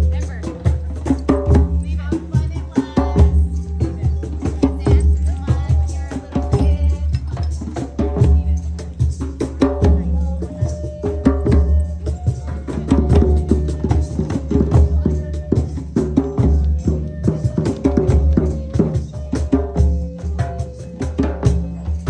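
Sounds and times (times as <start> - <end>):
hand drums and percussion: 0.0 - 22.0.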